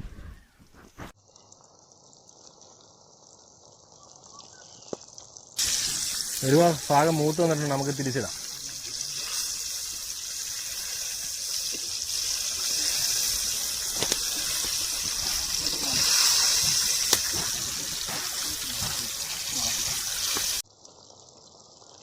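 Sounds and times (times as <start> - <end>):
oil sizzling: 1.2 - 22.0.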